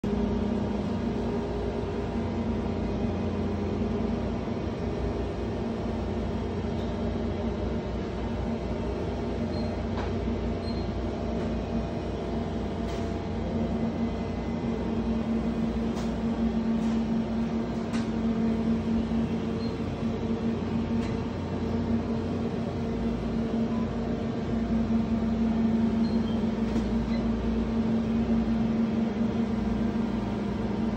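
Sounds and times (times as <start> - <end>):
refrigerated case humming: 0.1 - 30.9.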